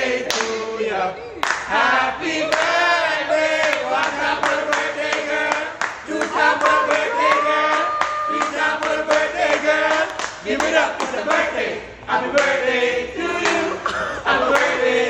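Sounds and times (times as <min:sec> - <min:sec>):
hand-clapping to the beat: 0:00.0 - 0:00.7, 0:01.4 - 0:13.7, 0:14.3 - 0:15.0
group singing in chorus: 0:00.0 - 0:15.0.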